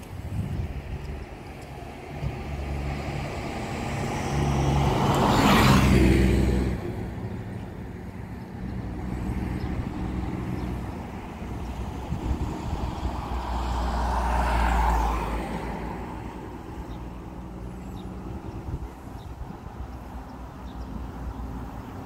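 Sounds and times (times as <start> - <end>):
bus driving past: 0.0 - 22.0
low traffic rumble: 0.0 - 22.0.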